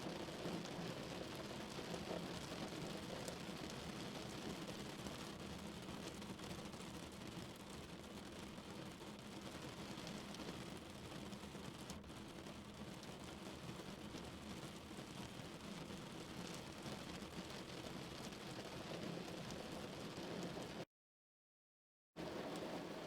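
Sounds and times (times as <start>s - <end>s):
rain falling on a car: 0.0s - 20.8s, 22.2s - 23.0s.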